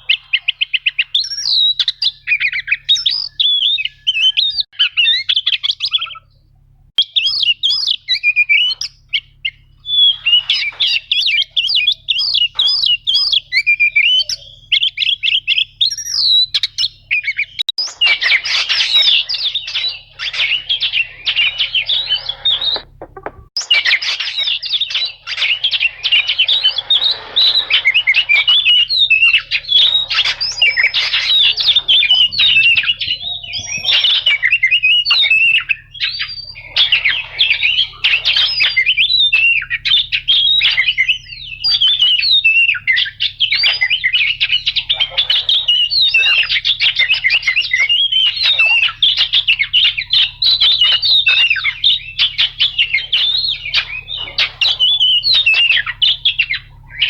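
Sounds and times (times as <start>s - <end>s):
bird singing chirps and whistles: 0.0s - 6.4s, 7.0s - 57.0s.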